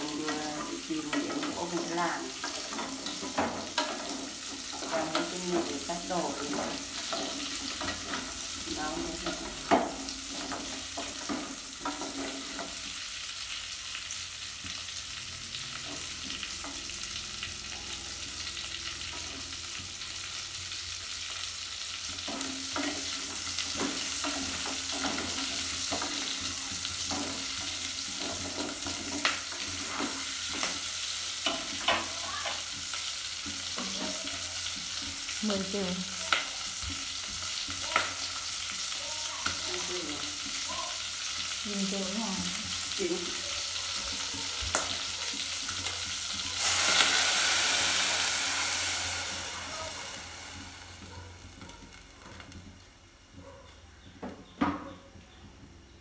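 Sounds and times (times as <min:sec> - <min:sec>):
pork sizzling in a pot: 0:00.0 - 0:56.0.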